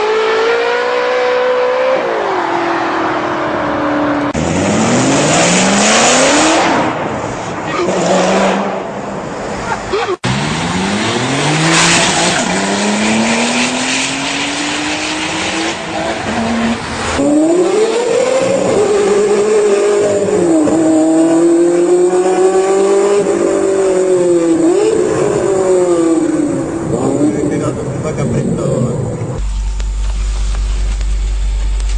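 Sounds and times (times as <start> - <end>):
car engine accelerating hard: 0.0 - 9.0, 10.1 - 31.9
car engine revving high: 0.0 - 9.1, 10.2 - 28.4
tyre road noise: 0.0 - 31.9.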